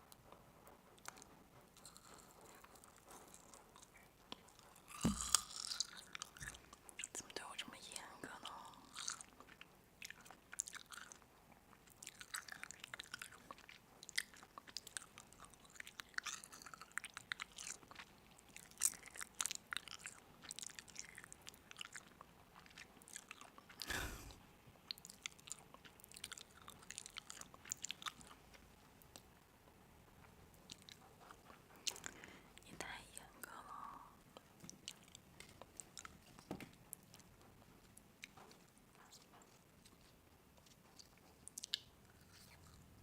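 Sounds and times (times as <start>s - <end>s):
chewing crisp food: 0.0s - 43.0s.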